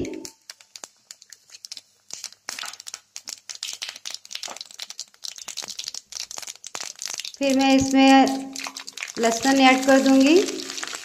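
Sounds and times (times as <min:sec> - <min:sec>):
oil sizzling hiss: 0:00.0 - 0:11.0
seeds crackling in hot oil: 0:00.0 - 0:11.0.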